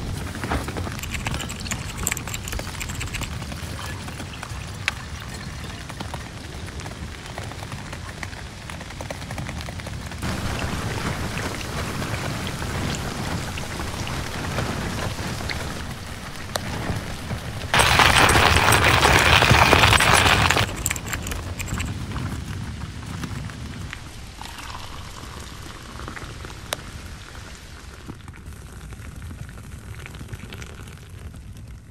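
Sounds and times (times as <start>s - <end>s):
wind driving sand against tent: 0.0s - 28.2s.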